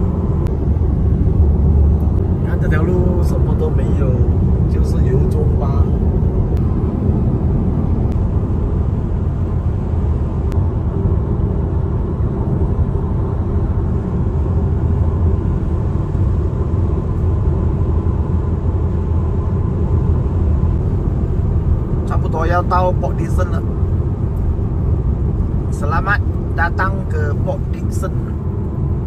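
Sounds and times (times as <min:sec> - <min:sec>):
car road noise inside cabin: 0:00.0 - 0:29.0.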